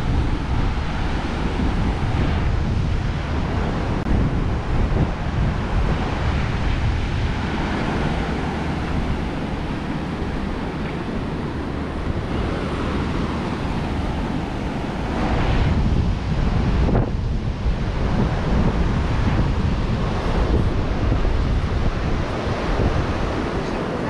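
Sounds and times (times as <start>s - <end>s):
ocean surf on beach: 0.0s - 24.0s
wind rumble on microphone: 0.0s - 24.0s.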